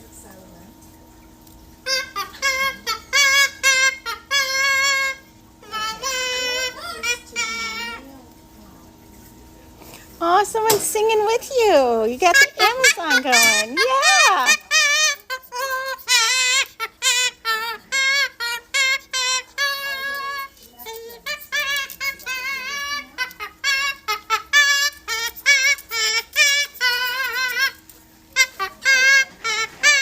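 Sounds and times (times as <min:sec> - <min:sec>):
faint steady hum: 0:00.0 - 0:30.0
parrot singing: 0:01.8 - 0:08.3, 0:11.2 - 0:30.0.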